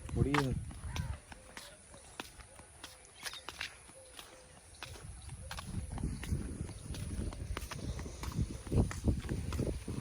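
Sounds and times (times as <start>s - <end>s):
footsteps of people walking: 0.0s - 10.0s.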